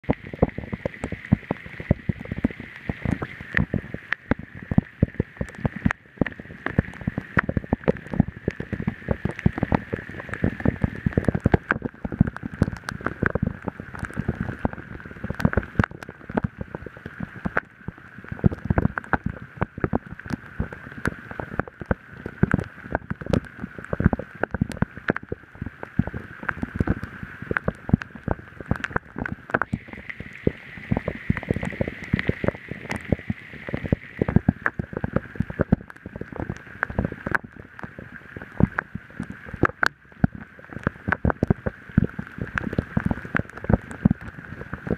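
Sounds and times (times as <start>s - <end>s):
heavy rain on grass: 0.0s - 44.9s.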